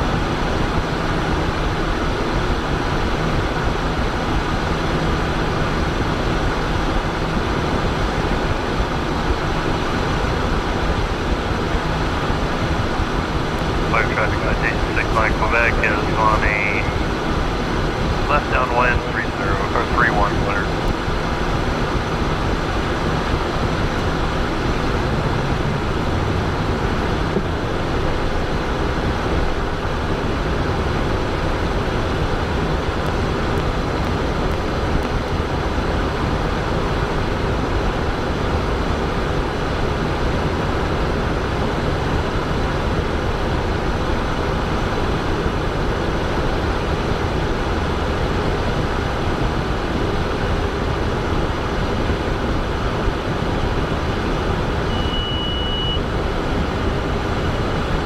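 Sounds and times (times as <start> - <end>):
airflow over jet cabin: 0.0 - 58.0
jet engines humming: 0.0 - 58.0.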